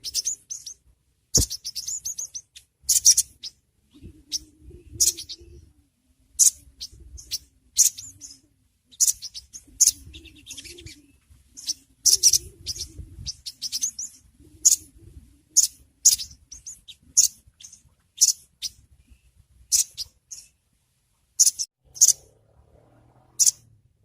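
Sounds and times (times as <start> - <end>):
sunbird high chirps: 0.0 - 5.7, 6.3 - 20.6, 21.4 - 22.3, 23.4 - 23.7.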